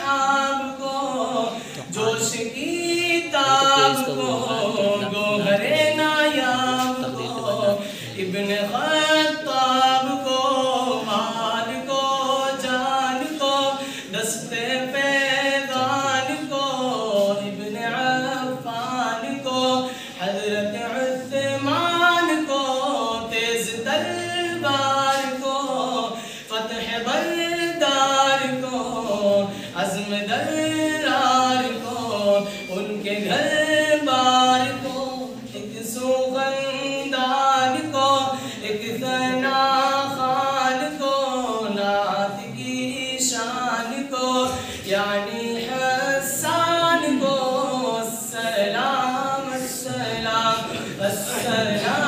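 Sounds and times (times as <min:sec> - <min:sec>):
man singing unaccompanied: 0:00.0 - 0:52.0.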